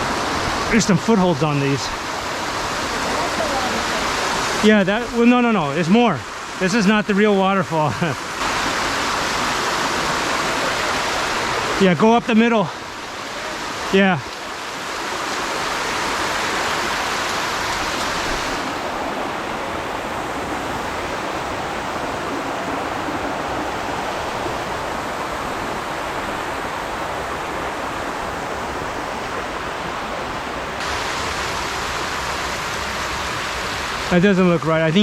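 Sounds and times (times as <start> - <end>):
waterfall rushing over boulders: 0.0 - 35.0.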